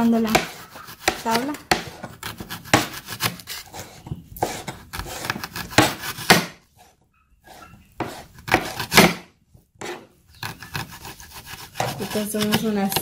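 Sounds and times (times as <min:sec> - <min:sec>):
knife slicing onion: 0:00.0 - 0:13.0.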